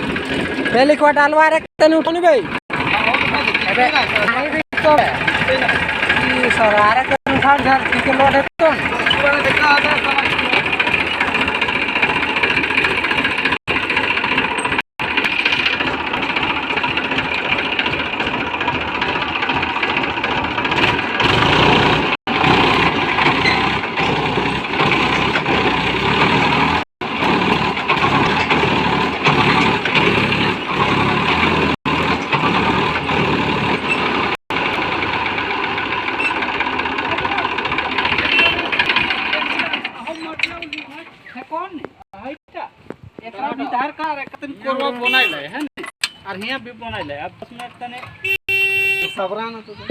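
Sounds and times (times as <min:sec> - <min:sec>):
tractor diesel engine running: 0:00.0 - 0:42.0, 0:47.5 - 0:49.1.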